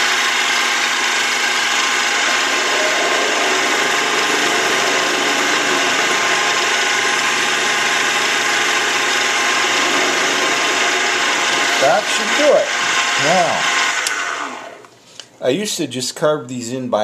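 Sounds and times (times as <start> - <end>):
lathe tool cutting: 0.0 - 14.8
lathe motor whine: 0.0 - 14.9.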